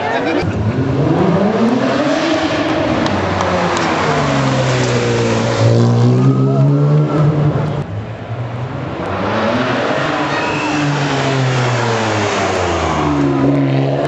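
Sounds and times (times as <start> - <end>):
car engine revving: 0.3 - 14.0.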